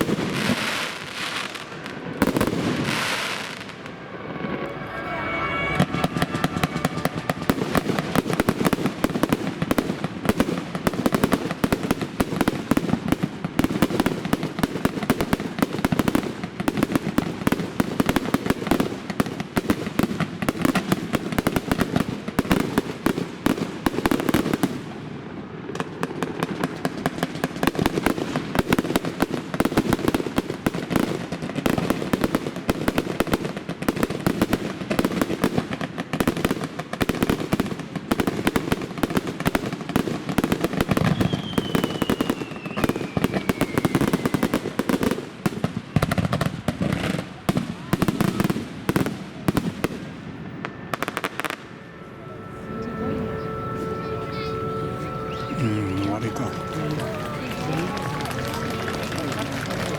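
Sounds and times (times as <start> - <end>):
fireworks bangs and crackles: 0.0 - 51.8, 54.6 - 59.9.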